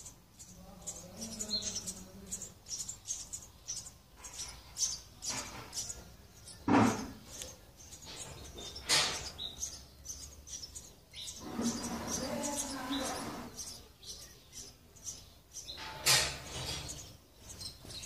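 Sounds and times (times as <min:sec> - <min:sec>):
sparrow chicks cheeping: 0:00.0 - 0:18.0.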